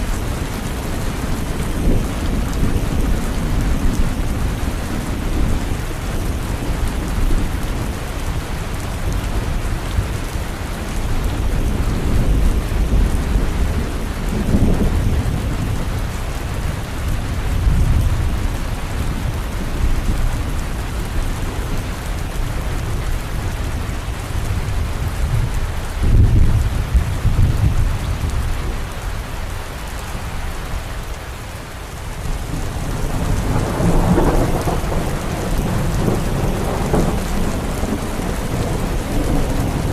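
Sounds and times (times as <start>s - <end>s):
rolling thunder: 0.0s - 28.8s, 32.2s - 39.9s
steady rain: 0.0s - 39.9s.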